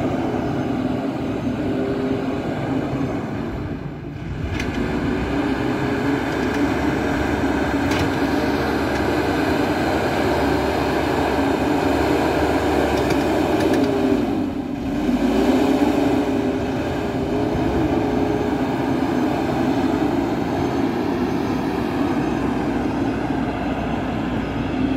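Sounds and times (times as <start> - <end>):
backhoe diesel engine running: 0.0 - 24.9.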